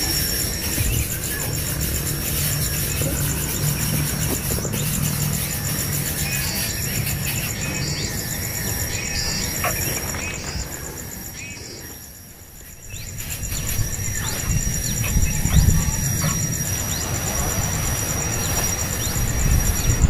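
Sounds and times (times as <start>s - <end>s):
bird chirps: 0.0s - 20.0s
high-pitched insect trill: 0.0s - 20.0s.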